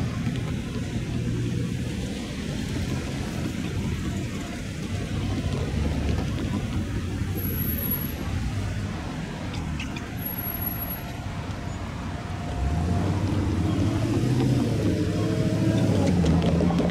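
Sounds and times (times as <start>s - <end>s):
motor vehicle engine hum: 0.0s - 16.9s.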